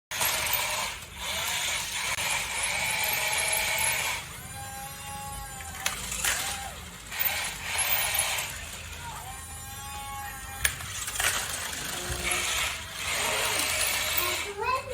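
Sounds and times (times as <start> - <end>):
toy motors whirring and ratcheting: 0.1 - 14.9.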